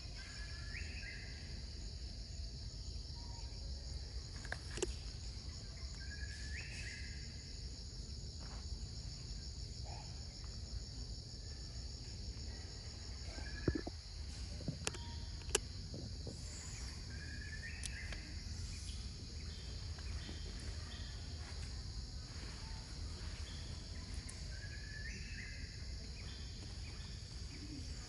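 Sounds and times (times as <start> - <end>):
insect chorus drone: 0.0 - 28.0.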